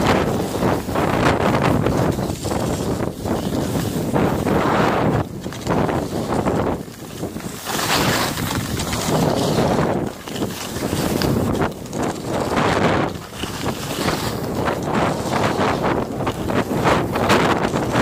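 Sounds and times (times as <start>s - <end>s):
skis scraping on snow: 0.0s - 18.0s
wind buffeting microphone: 0.0s - 18.0s.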